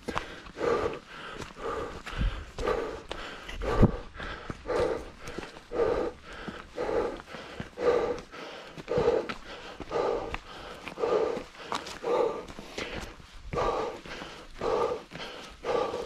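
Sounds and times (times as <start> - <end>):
footsteps on dirt trail: 0.0 - 16.0
person breathing heavily: 0.0 - 16.0.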